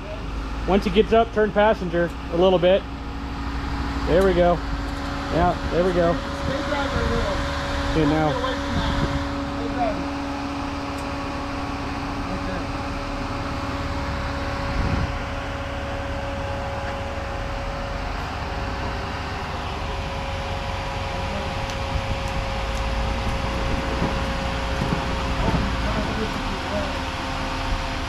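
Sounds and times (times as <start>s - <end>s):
off-road vehicle engine rumbling: 0.0s - 28.0s.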